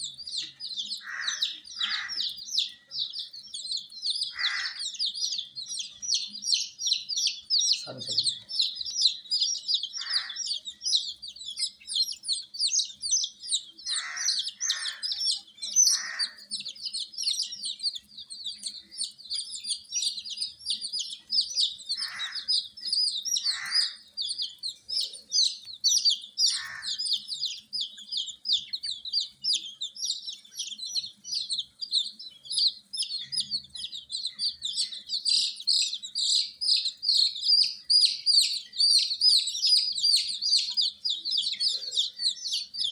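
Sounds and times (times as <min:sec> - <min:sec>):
chicks peeping: 0:00.0 - 0:42.9
low rough chick calls: 0:00.0 - 0:42.9.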